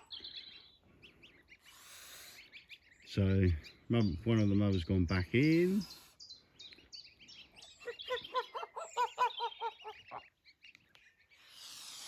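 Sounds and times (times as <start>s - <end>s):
goslings peeping: 0.0s - 12.0s.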